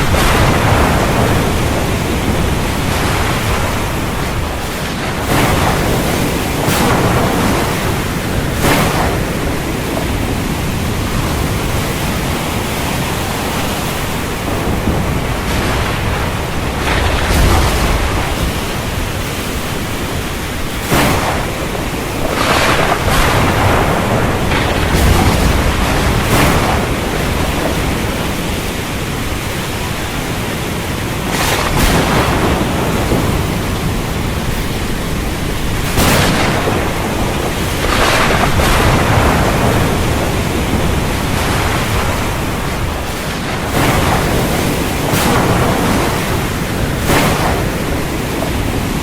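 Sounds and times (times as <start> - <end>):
storm wind blowing: 0.0 - 49.0.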